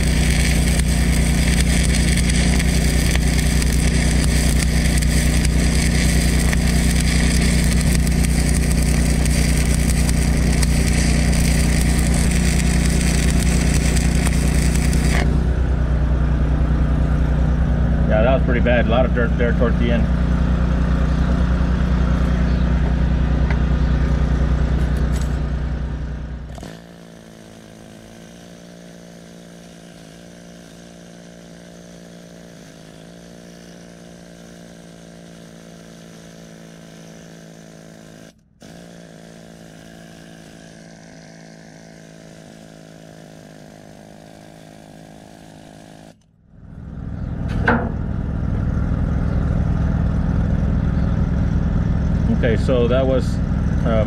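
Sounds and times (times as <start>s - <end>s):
engine revving and idling: 0.0s - 54.0s.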